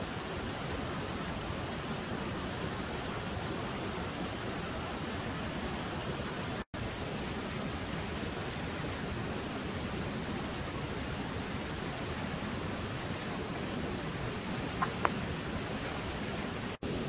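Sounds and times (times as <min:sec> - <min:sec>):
camp stove burner hissing: 0:00.0 - 0:17.0.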